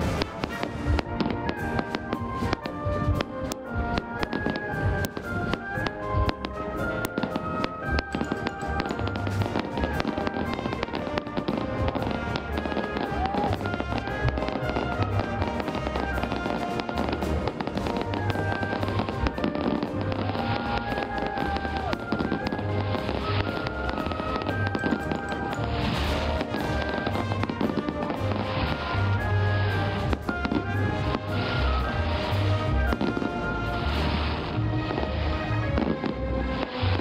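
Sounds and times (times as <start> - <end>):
fireworks popping and crackling: 0.0 - 37.0
music playing: 0.0 - 37.0.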